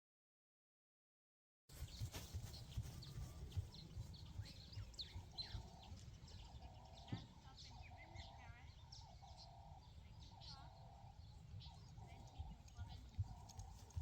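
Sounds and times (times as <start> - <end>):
small birds chirping: 1.7 - 14.0.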